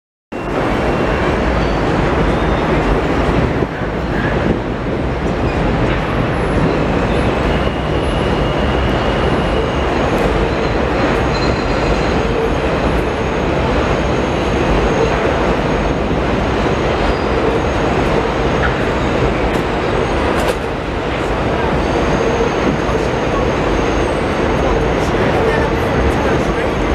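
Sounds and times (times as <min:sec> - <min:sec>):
high wheel squeal: 0:00.4 - 0:04.5, 0:05.3 - 0:26.9
train wheels rumbling on rails: 0:00.4 - 0:26.9.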